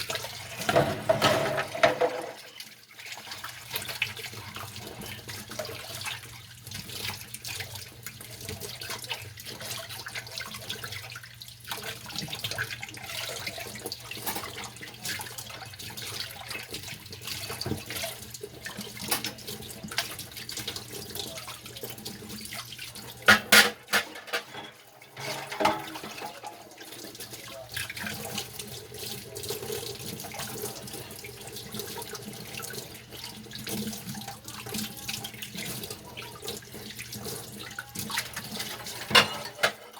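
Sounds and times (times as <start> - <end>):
dishes clinking and scrubbing: 0.0 - 7.7, 11.7 - 39.9.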